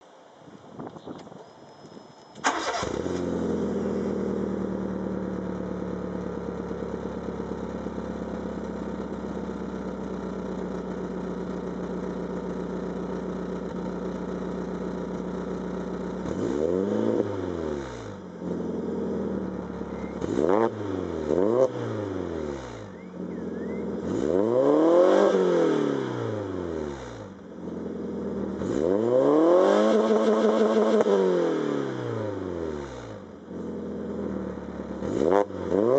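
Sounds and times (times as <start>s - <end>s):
car engine idling and revving: 2.4s - 35.9s.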